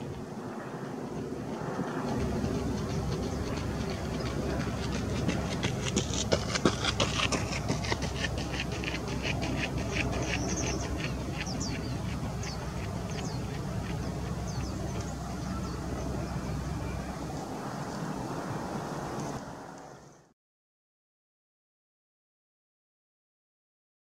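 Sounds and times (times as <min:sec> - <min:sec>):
low background rumble: 0:00.0 - 0:19.8.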